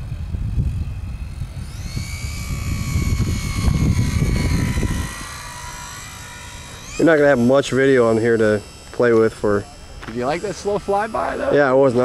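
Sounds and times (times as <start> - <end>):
model plane motor whining: 0.0 - 12.0
wind buffeting microphone: 0.0 - 12.0.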